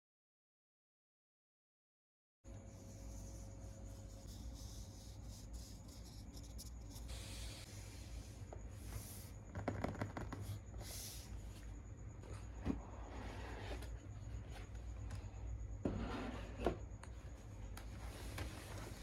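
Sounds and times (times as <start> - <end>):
low steady hum: 2.5 - 19.0.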